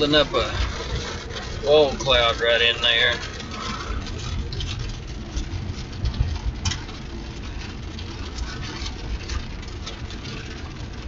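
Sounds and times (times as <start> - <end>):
car road and engine rumble: 0.0 - 11.0
small rattles: 0.0 - 11.0.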